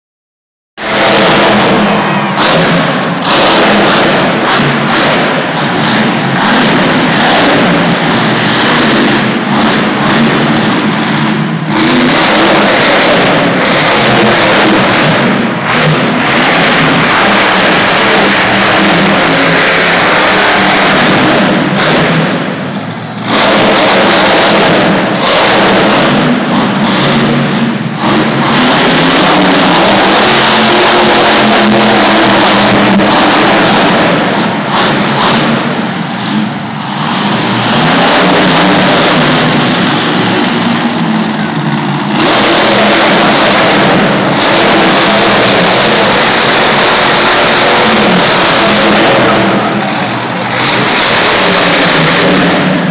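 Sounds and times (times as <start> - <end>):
monster truck engine revving: 0.8 - 52.9.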